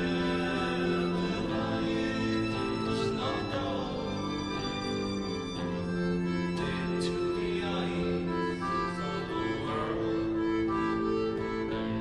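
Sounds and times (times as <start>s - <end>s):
band playing folk music: 0.0s - 12.0s.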